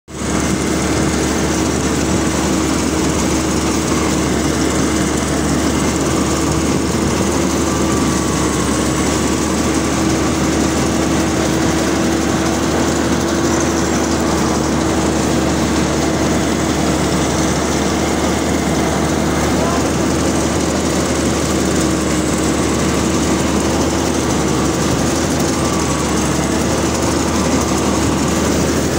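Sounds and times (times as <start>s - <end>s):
combine harvester droning: 0.1s - 28.9s.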